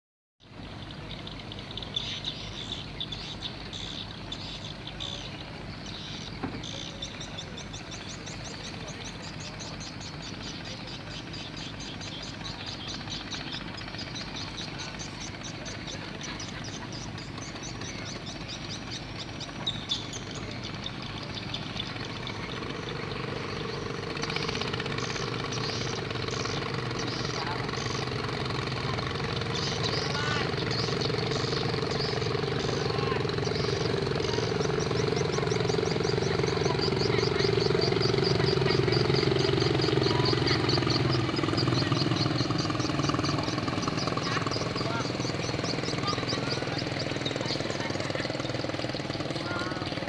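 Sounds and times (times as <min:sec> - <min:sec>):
low engine drone: 0:00.4 - 0:50.0
small birds chirping: 0:00.4 - 0:50.0
steady motor note: 0:00.8 - 0:50.0.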